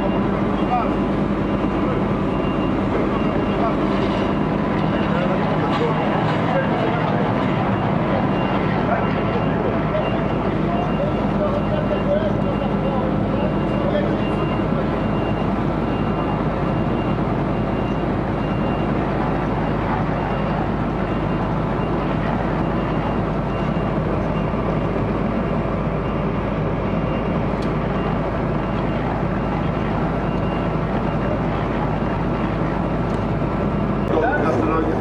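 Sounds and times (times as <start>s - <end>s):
fire engine rumbling: 0.0s - 35.0s.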